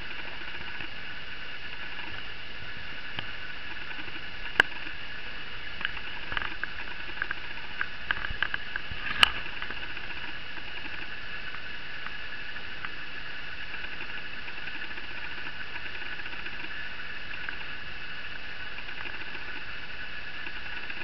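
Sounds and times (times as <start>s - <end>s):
faint high whine: 0.0s - 21.0s
steady hiss: 0.0s - 21.0s.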